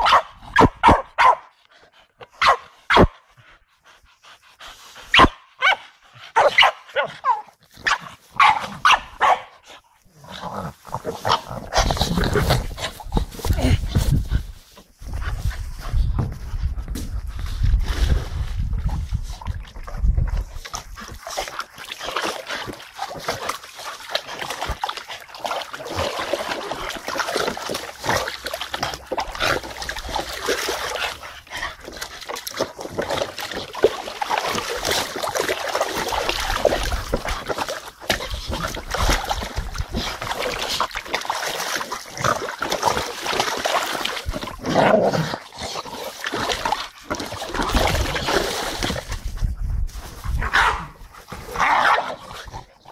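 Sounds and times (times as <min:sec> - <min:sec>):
dogs splashing water in a pool: 0:04.2 - 0:52.9.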